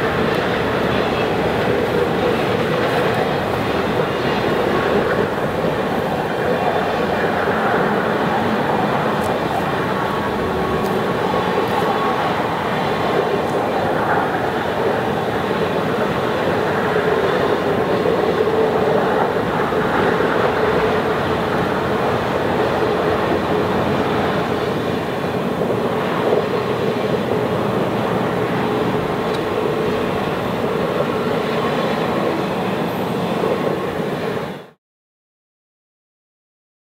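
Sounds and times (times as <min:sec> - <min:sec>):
train wheels rumbling on rail: 0:00.0 - 0:34.8.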